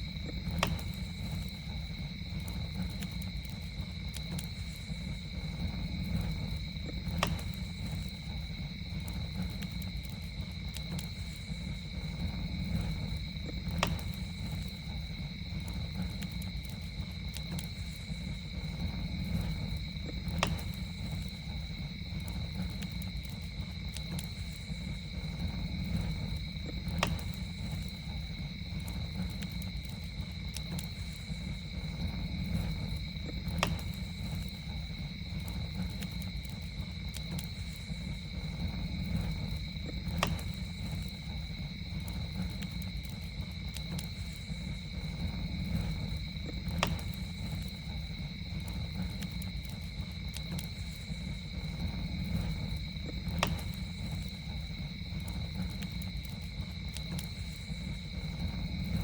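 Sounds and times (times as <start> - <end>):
campfire crackling: 0.0 - 59.0
fire popping: 0.0 - 59.0
night insects trilling: 0.0 - 59.0.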